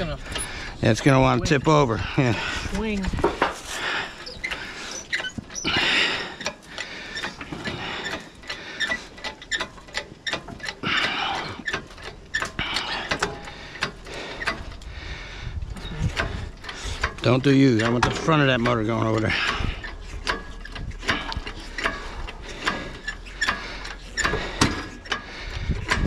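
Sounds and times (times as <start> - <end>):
scraping squeaks: 0.0 - 14.8, 15.7 - 26.0
metal frame and chain clanking: 0.0 - 26.0.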